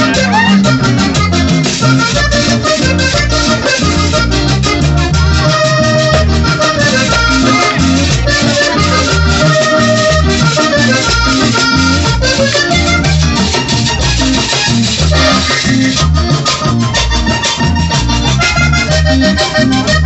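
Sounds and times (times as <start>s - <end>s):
button accordion melody: 0.0s - 20.0s
pulsing bass line: 0.0s - 20.0s.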